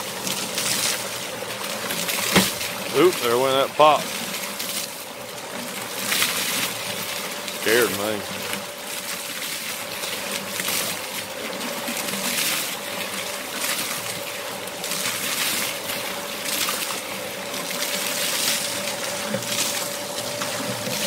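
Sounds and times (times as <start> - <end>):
water gushing and splashing: 0.0 - 21.0.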